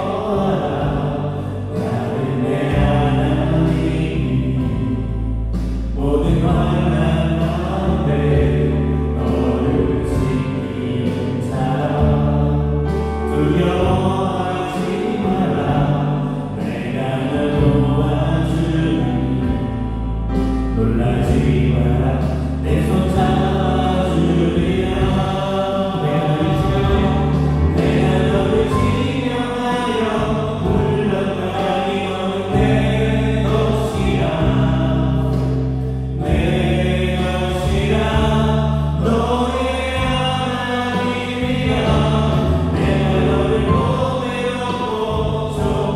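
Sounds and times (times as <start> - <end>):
person singing: 0.0 - 45.9
worship band playing: 0.0 - 45.9.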